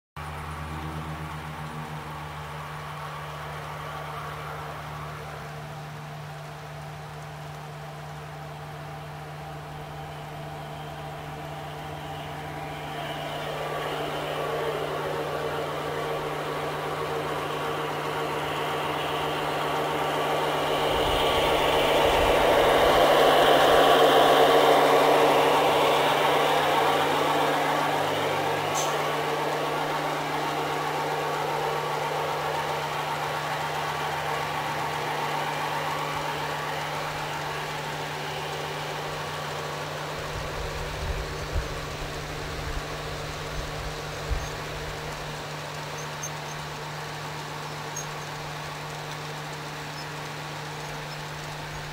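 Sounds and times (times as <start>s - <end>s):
model train rolling on track: 0.2s - 51.9s.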